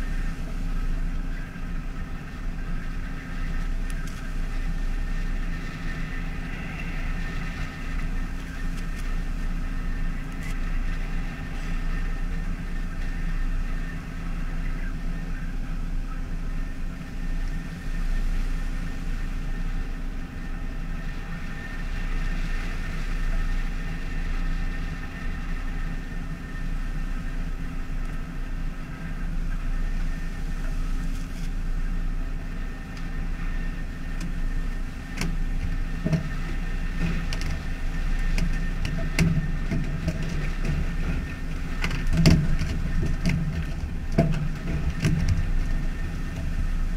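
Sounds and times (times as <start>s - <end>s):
boat engine drone: 0.0s - 46.9s
machinery hum: 0.0s - 46.9s.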